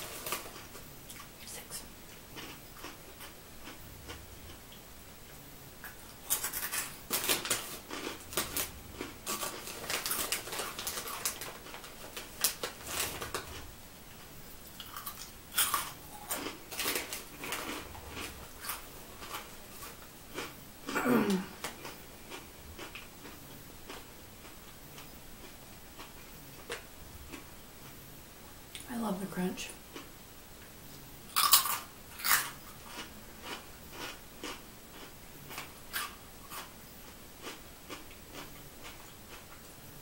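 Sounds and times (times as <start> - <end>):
crunchy snack chewing: 0.0 - 1.3, 2.1 - 4.8, 5.8 - 13.7, 14.6 - 27.5, 31.3 - 36.7, 37.4 - 39.7.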